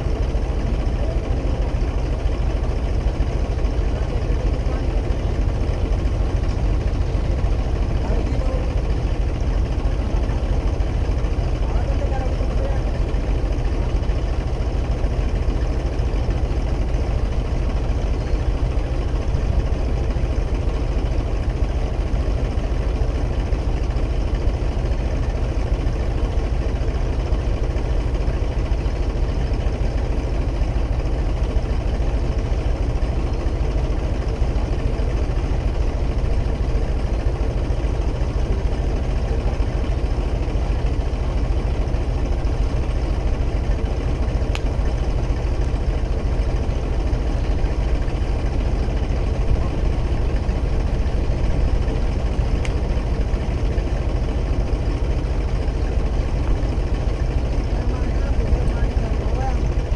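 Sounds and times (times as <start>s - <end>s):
diesel tractor engine droning: 0.0s - 59.9s.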